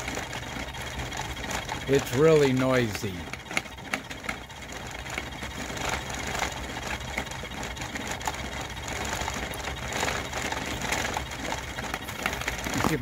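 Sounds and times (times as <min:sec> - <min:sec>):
motor humming with clicking rattle: 0:00.0 - 0:13.0.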